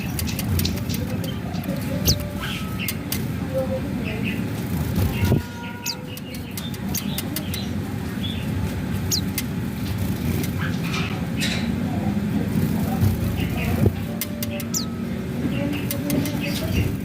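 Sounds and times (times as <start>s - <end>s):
birds chirping and ticking: 0.0s - 17.0s.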